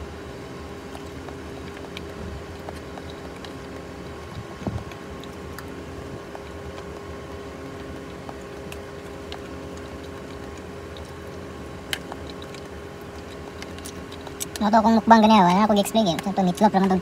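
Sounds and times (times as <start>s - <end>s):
low hum: 0.0s - 17.0s
quiet chewing: 0.4s - 17.0s.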